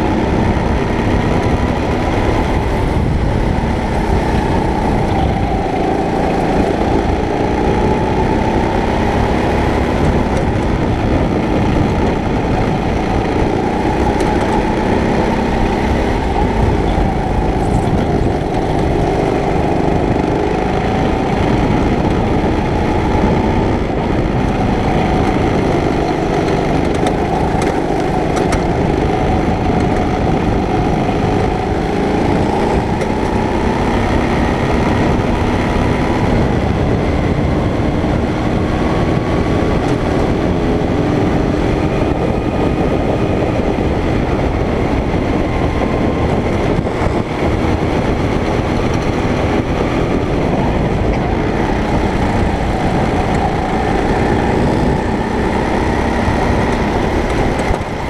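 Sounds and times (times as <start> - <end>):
kart engine racing: 0.0 - 58.0.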